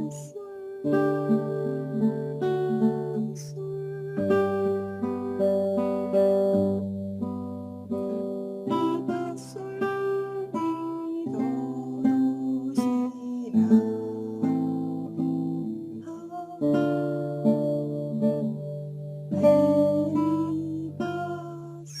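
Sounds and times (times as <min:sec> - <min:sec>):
classical guitar fingerstyle: 0:00.0 - 0:22.0.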